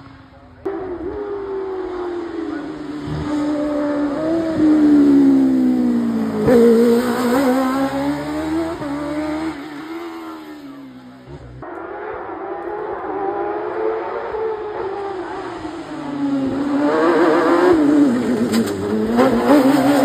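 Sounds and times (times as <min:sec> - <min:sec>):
racing car engine revving: 0:00.6 - 0:20.0.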